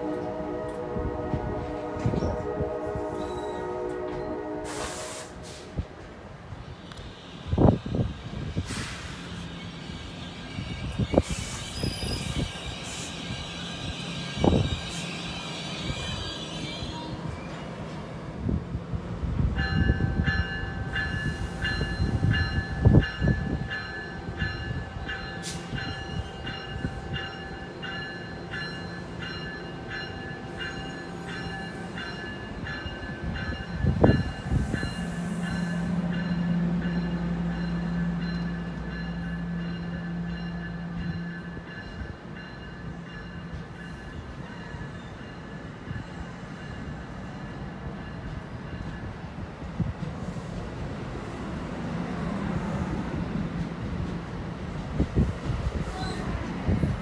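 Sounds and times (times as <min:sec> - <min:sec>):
train wheels rumbling: 0:00.0 - 0:57.0.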